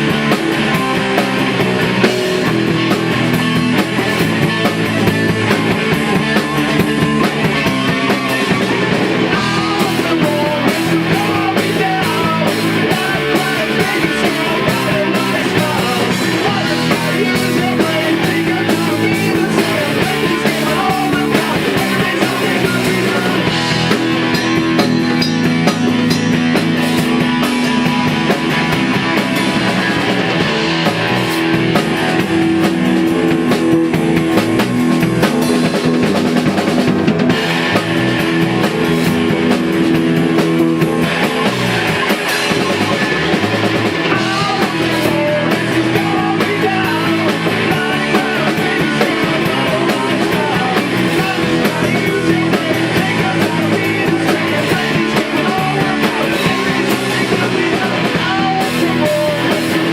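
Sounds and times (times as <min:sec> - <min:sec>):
rock band playing punk song: 0:00.0 - 0:59.9.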